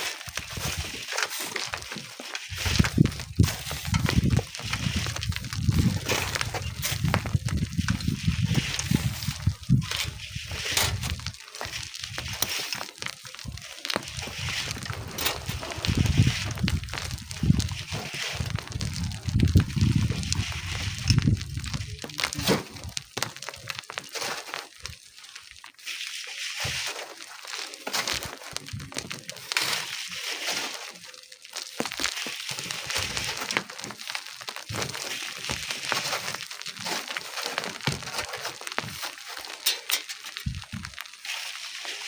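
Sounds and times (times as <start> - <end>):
stones clicking and knocking: 0.0 - 25.0, 26.4 - 42.0
sand and gravel scraping: 0.0 - 42.0.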